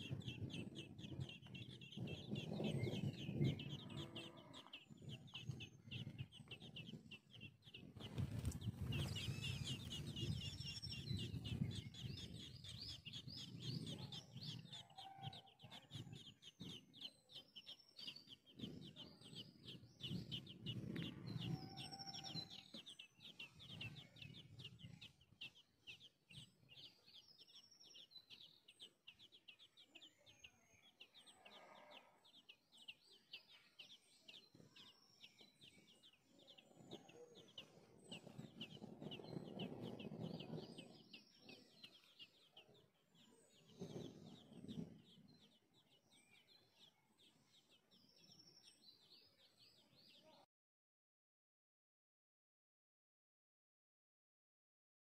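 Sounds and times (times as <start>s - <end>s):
birds chirping: 0.0s - 50.4s.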